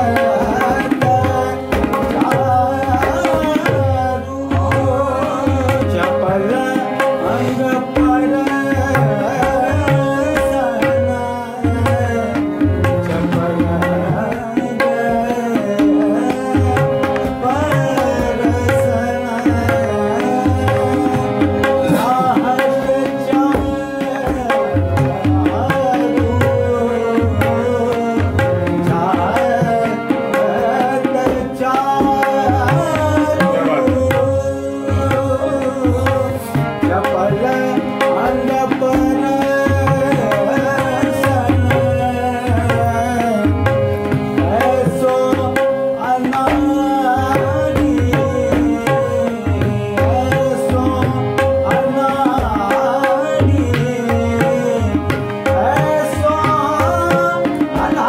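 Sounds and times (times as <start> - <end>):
harmonium: 0.0 - 58.0
man singing: 0.0 - 58.0
tabla beat: 0.0 - 58.0.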